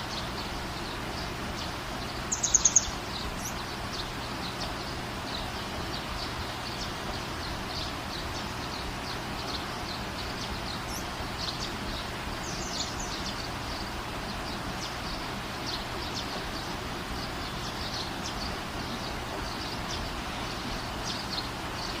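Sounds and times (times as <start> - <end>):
birds chirping: 0.0 - 22.0
steady background hiss: 0.0 - 22.0.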